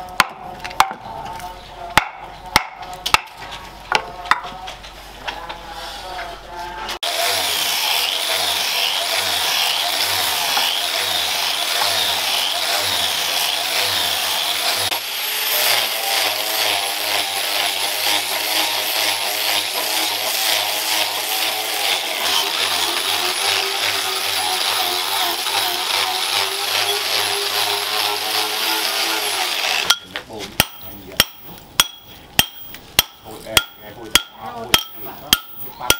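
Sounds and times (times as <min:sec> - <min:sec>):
angle grinder sanding wood: 0:07.0 - 0:35.9.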